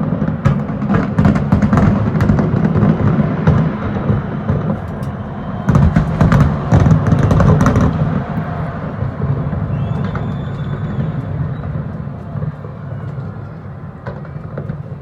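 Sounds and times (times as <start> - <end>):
fireworks booms and crackling: 0.0 - 15.0.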